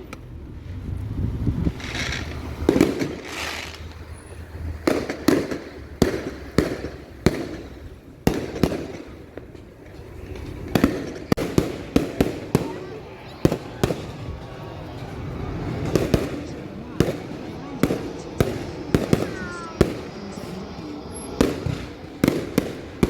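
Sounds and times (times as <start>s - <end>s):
firework hiss: 1.7s - 9.4s, 10.5s - 23.0s
fireworks bangs: 1.7s - 23.0s.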